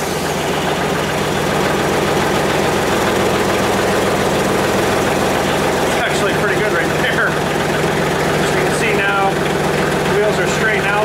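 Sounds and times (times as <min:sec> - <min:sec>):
garden tractor engine idling: 0:00.0 - 0:11.0.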